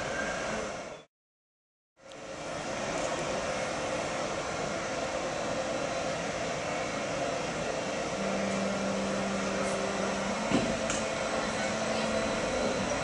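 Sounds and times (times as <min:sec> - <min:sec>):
locomotive cooling fans whirring: 0:00.0 - 0:01.0, 0:02.0 - 0:13.0
low steady hum: 0:02.0 - 0:13.0.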